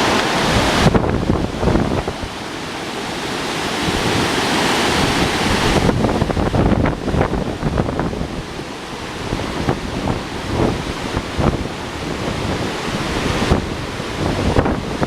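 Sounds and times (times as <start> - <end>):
river rushing: 0.0 - 15.0
wind buffeting microphone: 0.0 - 15.0.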